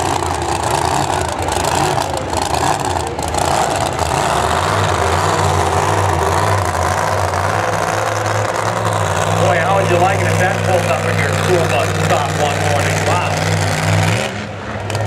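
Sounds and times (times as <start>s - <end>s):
distant truck engines idling: 0.0s - 15.0s.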